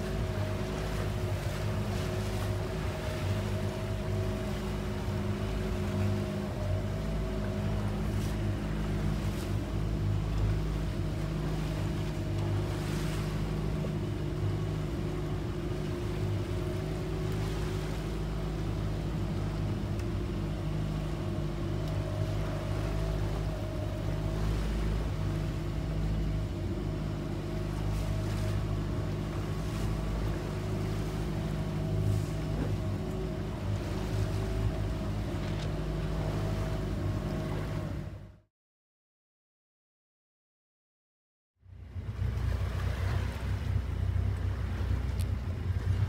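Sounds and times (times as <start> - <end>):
motorboat engine running: 0.0 - 38.5, 41.6 - 46.0
wind: 0.0 - 38.5, 41.6 - 46.0.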